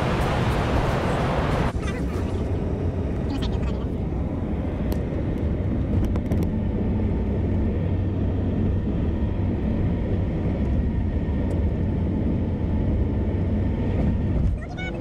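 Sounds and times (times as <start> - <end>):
car engine running: 0.0 - 15.0
tyres rumbling on road: 0.0 - 15.0.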